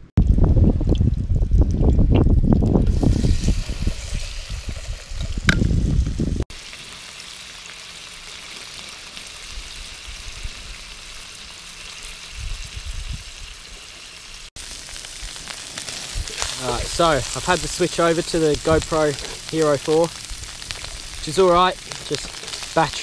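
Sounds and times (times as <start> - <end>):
seafood sizzling in a pan: 2.9 - 5.4, 6.5 - 23.0.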